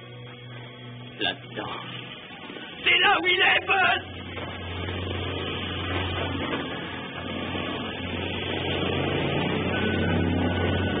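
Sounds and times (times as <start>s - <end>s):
old car engines rumbling: 0.0s - 11.0s.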